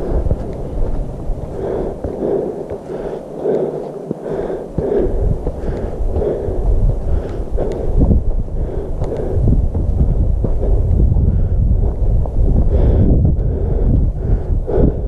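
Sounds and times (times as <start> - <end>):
heavy rhythmic breathing: 0.0 - 15.0
wind rumbling on microphone: 0.0 - 15.0.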